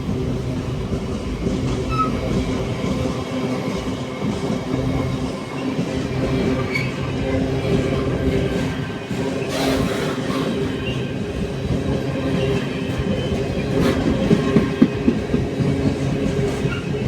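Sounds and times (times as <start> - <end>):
train engine: 0.0 - 17.0.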